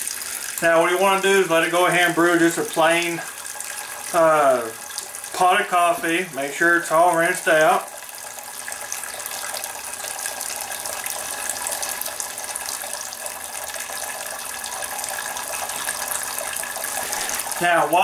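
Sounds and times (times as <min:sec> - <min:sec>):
water trickling into glass carafe: 0:00.0 - 0:18.0.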